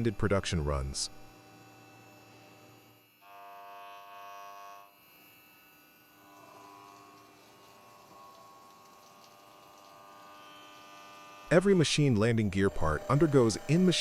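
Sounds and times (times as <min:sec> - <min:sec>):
machine electric hum: 0:00.0 - 0:14.0.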